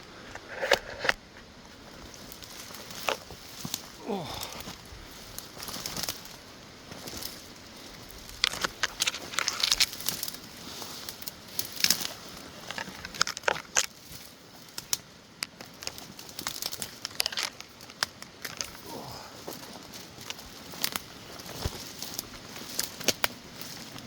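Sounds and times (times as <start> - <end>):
dry brush crackling and snapping: 0.2 - 24.0
twigs and leaf litter crunching: 0.2 - 24.0
branches brushing past: 0.4 - 15.0, 15.6 - 24.0.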